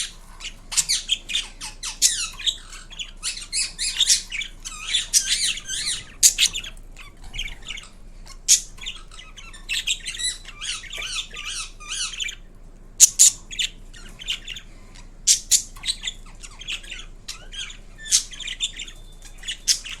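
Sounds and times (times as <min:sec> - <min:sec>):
parakeet chattering and chirping: 0:00.0 - 0:20.0
parakeet squawks: 0:00.0 - 0:20.0.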